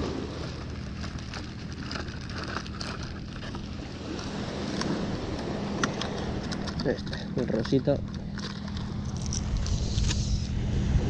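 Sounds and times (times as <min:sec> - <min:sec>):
fishing tackle clicking and rustling: 0:00.0 - 0:10.3.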